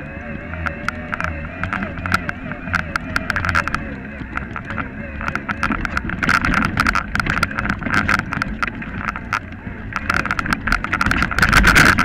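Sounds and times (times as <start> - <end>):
bike rattling over rough trail: 0.0 - 12.0
low rumble: 0.0 - 12.0
steady buzzing hum: 0.0 - 12.0.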